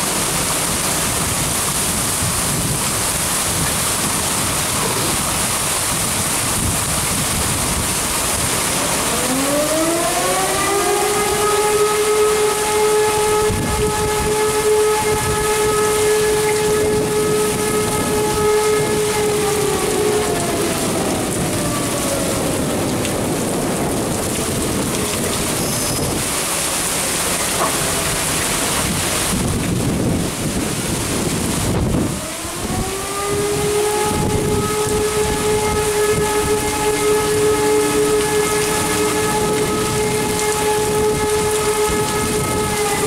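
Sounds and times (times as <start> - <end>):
heavy rain: 0.0 - 43.0
alarm siren: 5.9 - 43.0.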